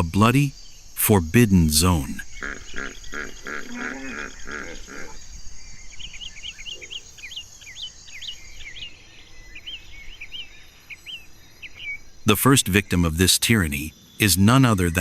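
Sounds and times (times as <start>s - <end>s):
bird chirping: 0.0s - 15.0s
high insect hum: 0.0s - 15.0s.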